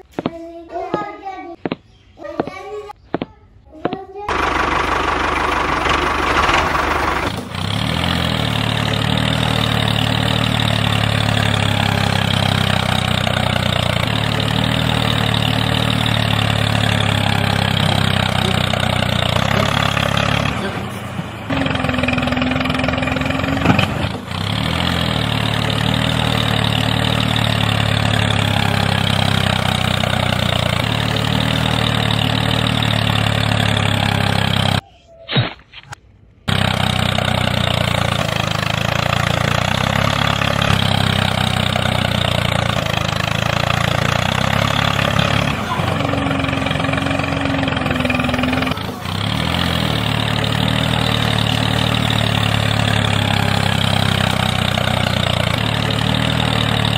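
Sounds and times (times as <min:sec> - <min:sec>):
tractor engine idling: 0:04.3 - 0:34.9, 0:36.5 - 0:56.9.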